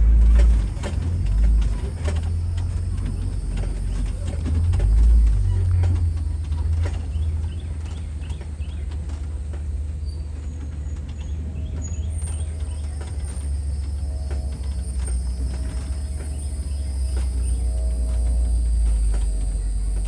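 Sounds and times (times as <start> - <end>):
truck engine rumbling: 0.0 - 20.0
birds chirping: 0.1 - 20.0.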